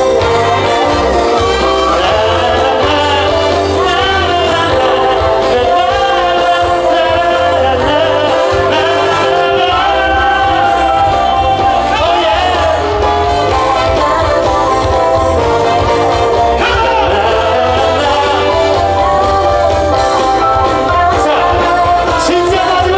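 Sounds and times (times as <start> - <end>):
person singing: 0.0 - 22.9
pop band backing track: 0.0 - 22.9.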